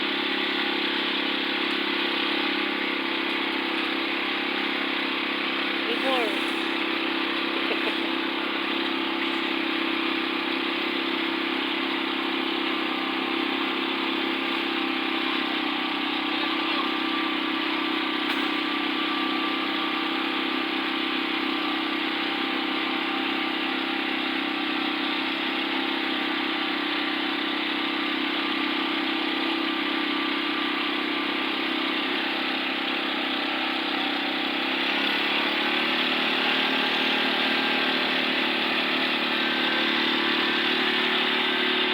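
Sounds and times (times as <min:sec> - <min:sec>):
concrete mixer engine running: 0:00.0 - 0:41.9.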